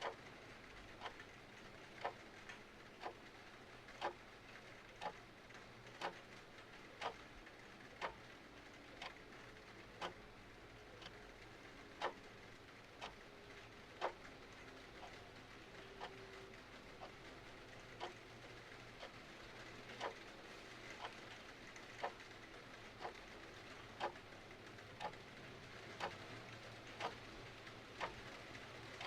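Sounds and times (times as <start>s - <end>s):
clock ticking: 0.0s - 4.2s, 4.8s - 7.4s, 8.0s - 9.3s, 10.0s - 10.3s, 10.9s - 29.0s
faint rain hiss: 0.0s - 29.0s.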